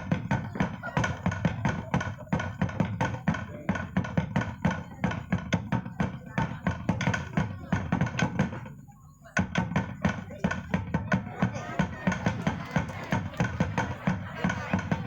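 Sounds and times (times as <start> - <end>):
drums and percussion dance music: 0.0 - 15.0.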